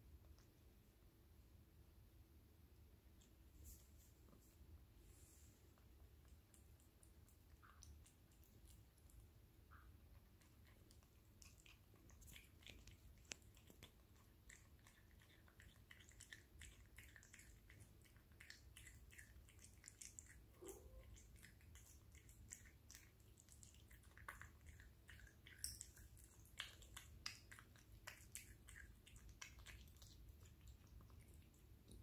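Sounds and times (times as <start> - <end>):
cat chewing wet smacks: 5.7 - 32.0.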